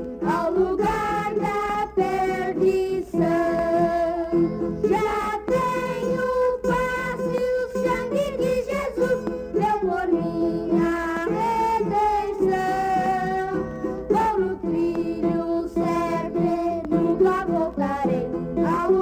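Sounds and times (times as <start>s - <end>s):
string ensemble playing a hymn: 0.0s - 19.0s.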